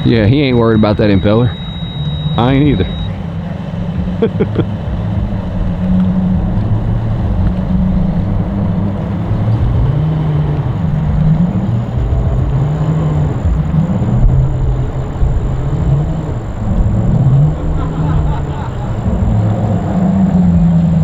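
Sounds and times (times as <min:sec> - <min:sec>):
outboard engines droning: 0:00.0 - 0:21.0.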